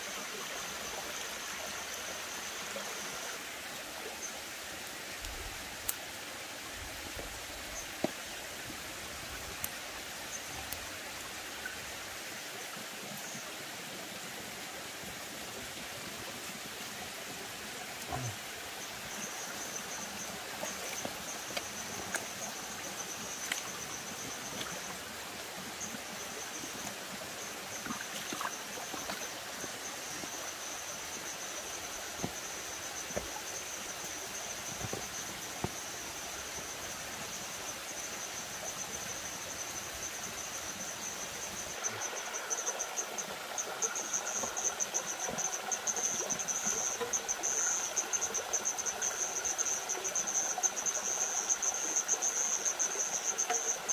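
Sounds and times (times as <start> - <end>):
insects chirring: 0.0 - 53.9
lower-pitched insect call: 0.0 - 53.9
stream water running: 0.0 - 53.9.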